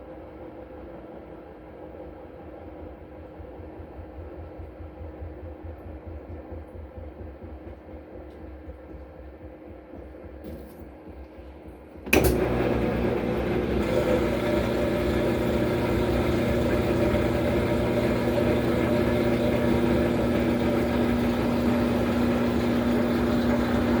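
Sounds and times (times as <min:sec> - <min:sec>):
washing machine motor hum: 0:00.8 - 0:24.0.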